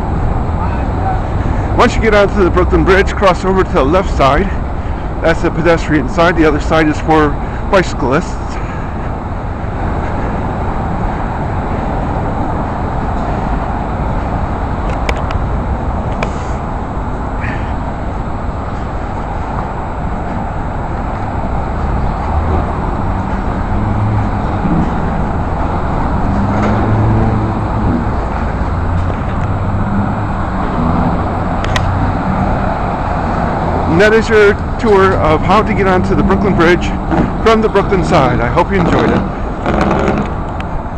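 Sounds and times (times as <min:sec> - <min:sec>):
traffic driving past: 0:00.0 - 0:40.9.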